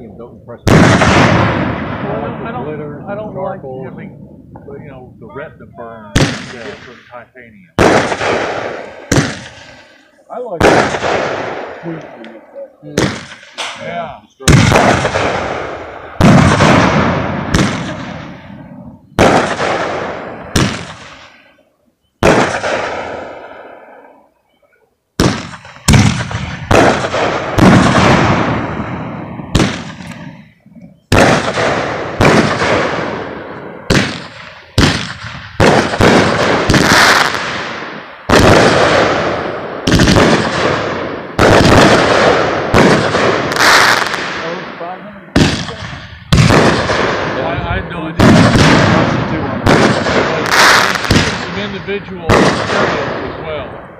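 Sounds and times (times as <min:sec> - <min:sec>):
fireworks bangs: 0:00.0 - 0:21.6, 0:22.2 - 0:24.3, 0:25.2 - 0:53.9.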